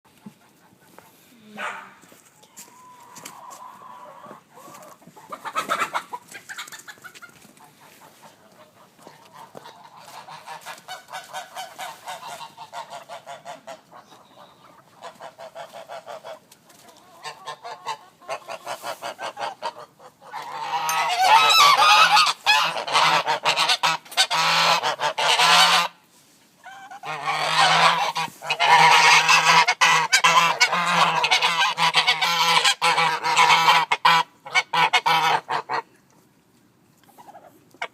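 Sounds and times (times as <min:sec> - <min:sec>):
geese honking: 0:02.6 - 0:26.0, 0:26.6 - 0:35.9.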